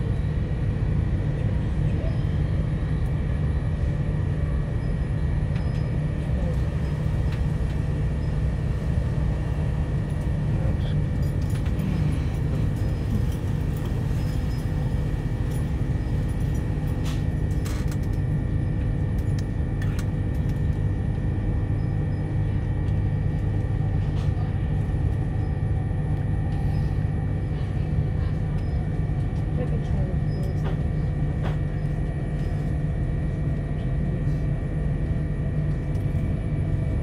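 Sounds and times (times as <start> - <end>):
train rumbling at speed: 0.0 - 37.0.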